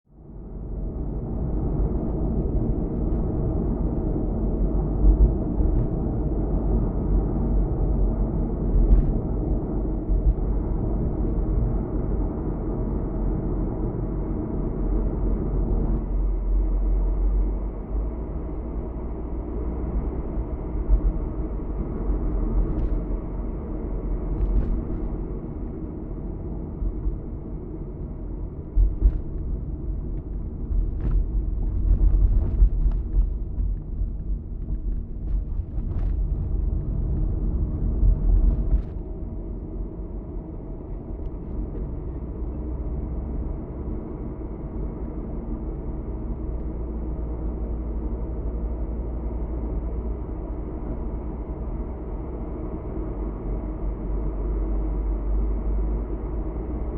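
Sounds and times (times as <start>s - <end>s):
car road and engine rumble: 0.0s - 56.9s.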